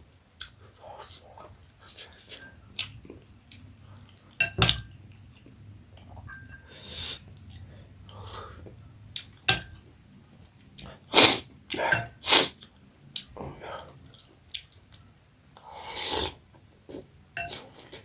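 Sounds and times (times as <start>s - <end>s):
soft chewing: 0.4s - 11.1s, 11.7s - 18.0s.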